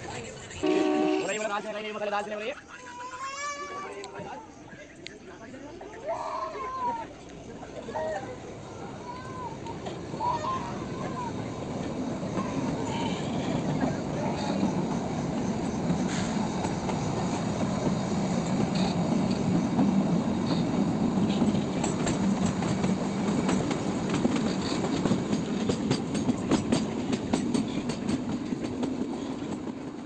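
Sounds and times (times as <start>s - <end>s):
train wheels rumbling on rails: 5.4s - 30.0s.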